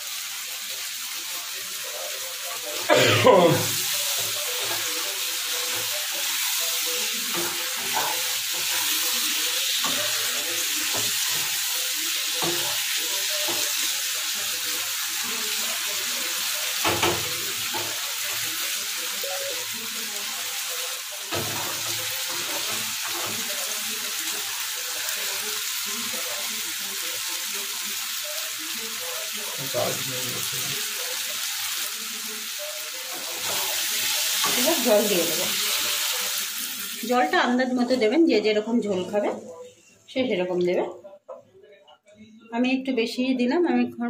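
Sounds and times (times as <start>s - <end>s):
potatoes sizzling in oil: 0.0s - 39.2s.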